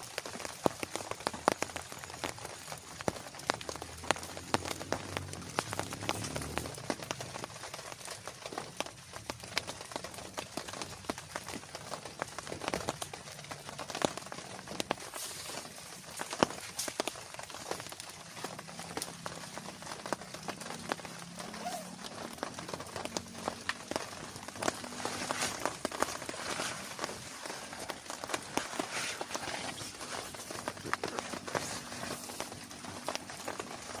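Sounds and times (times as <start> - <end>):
rain drops tapping a surface: 0.0 - 34.0.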